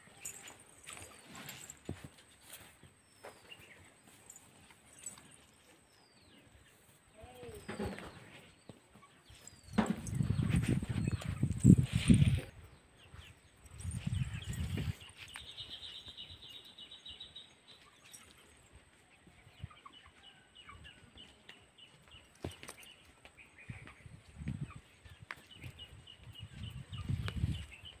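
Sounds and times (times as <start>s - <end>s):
faint bird chirping: 0.0s - 28.0s.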